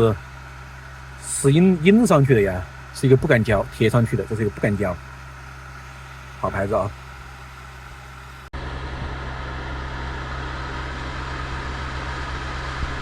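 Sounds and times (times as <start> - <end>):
air conditioner fan rushing: 0.0 - 13.0
low compressor hum: 0.0 - 13.0.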